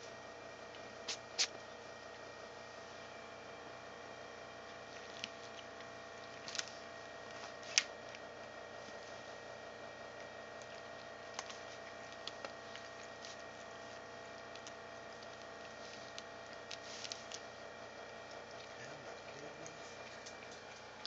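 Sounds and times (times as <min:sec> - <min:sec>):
steady room hum: 0:00.0 - 0:21.0.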